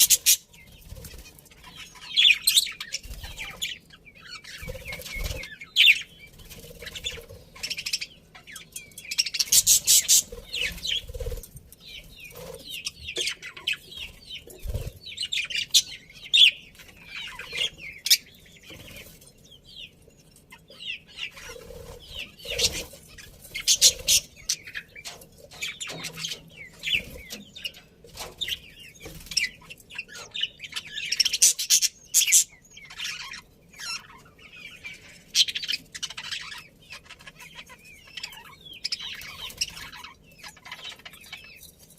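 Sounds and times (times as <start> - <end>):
budgerigars chirping: 0.0 - 19.9, 20.5 - 41.7.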